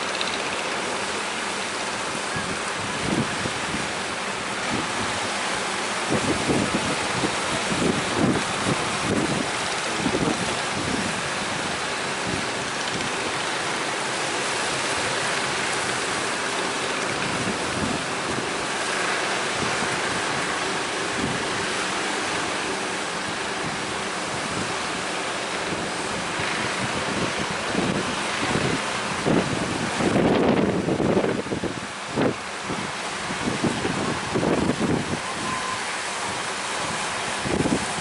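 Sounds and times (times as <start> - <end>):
sea waves and surf: 0.0 - 38.0
wind buffeting microphone: 0.0 - 38.0.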